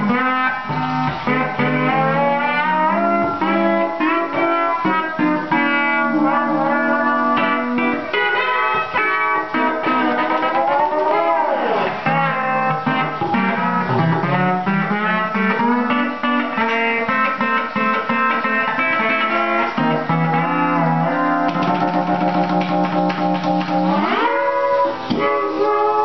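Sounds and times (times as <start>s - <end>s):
steel guitar sliding notes: 0.0s - 26.0s.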